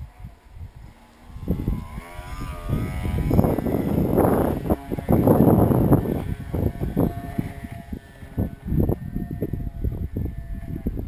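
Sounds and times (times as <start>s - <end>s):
electric motor whine: 0.0s - 11.0s
wind buffeting microphone: 0.0s - 11.0s.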